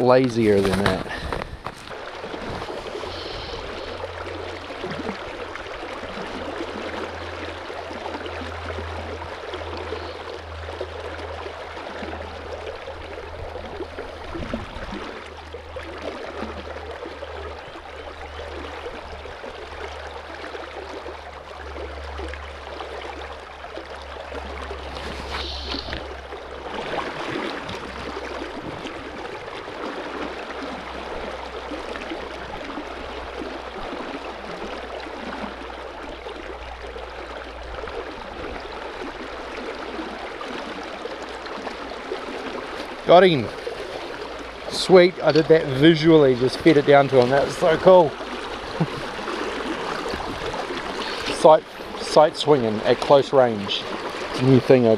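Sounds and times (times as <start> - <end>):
river water gurgling over stones: 0.0 - 54.9.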